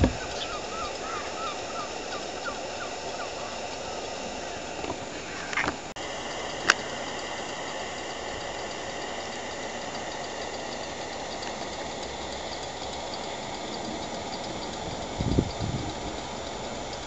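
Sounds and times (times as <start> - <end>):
blowtorch flame hissing: 0.0 - 17.0.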